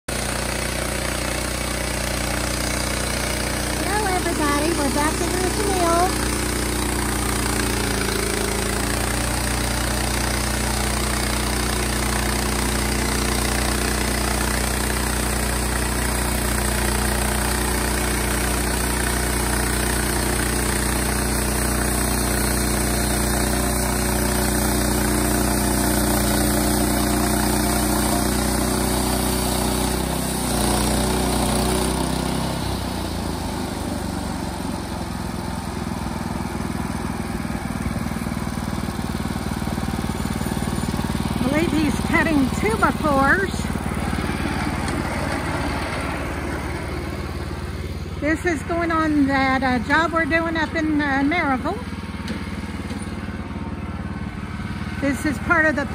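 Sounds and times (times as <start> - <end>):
band sawmill cutting log: 0.1 - 55.9.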